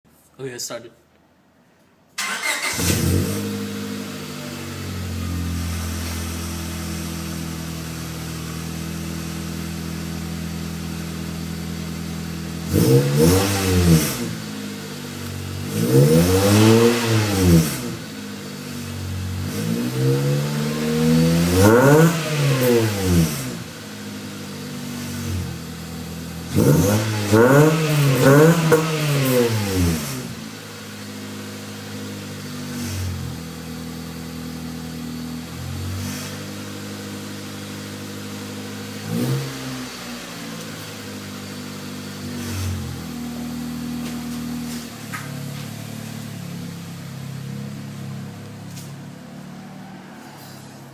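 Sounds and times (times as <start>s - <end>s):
car engine idling: 2.2s - 50.9s
car engine revving: 2.2s - 50.9s.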